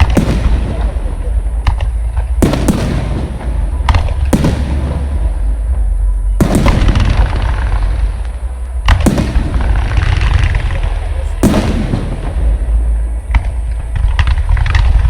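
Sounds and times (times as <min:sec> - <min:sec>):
firework bangs: 0:00.0 - 0:15.0
low rumble: 0:00.0 - 0:15.0.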